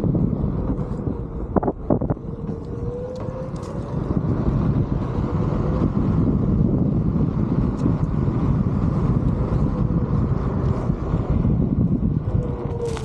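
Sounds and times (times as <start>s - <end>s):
tire rolling rumble: 0.0s - 13.0s
wind on microphone: 0.0s - 13.0s.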